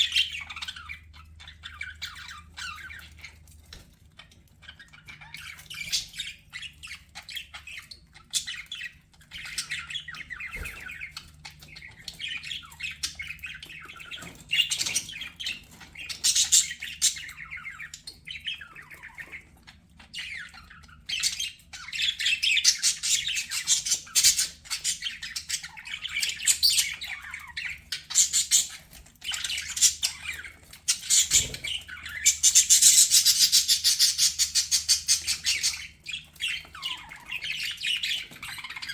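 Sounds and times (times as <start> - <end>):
budgerigars chattering and warbling: 0.0 - 38.9.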